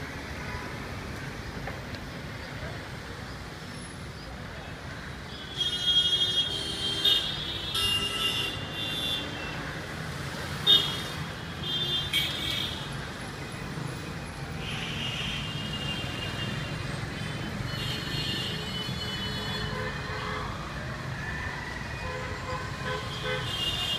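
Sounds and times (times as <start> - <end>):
traffic engines rumbling: 0.0 - 23.9.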